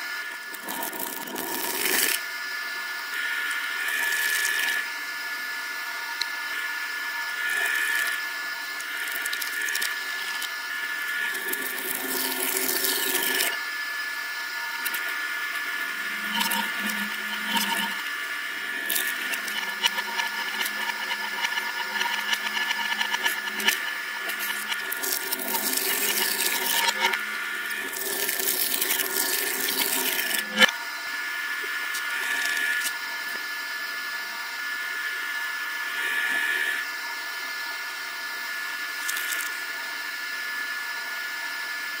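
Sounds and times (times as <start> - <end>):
shredder motor whine: 0.0 - 42.0.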